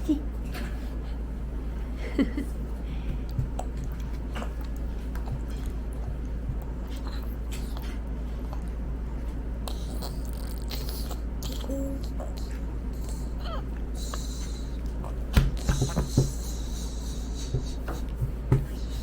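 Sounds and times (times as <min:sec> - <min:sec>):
steady low hum: 0:00.0 - 0:19.0
toddler chewing food: 0:02.9 - 0:19.0.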